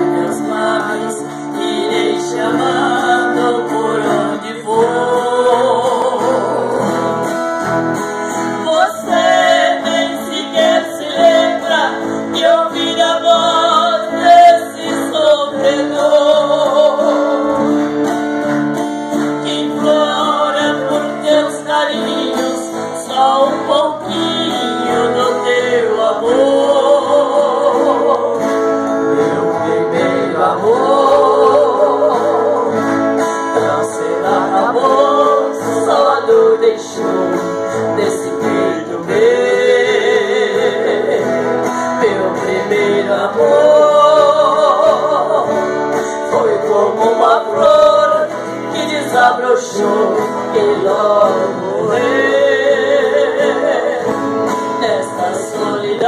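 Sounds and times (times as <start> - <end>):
woman singing a ballad: 0.0 - 7.5, 8.4 - 17.9, 19.2 - 56.0
acoustic guitars strummed: 0.0 - 56.0.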